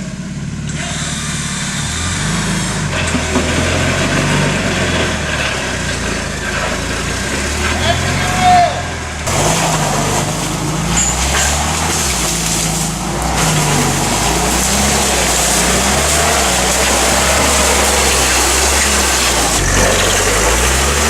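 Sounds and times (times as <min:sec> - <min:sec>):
noisy transmission rushing: 0:00.0 - 0:21.0
truck engine running: 0:00.0 - 0:21.0.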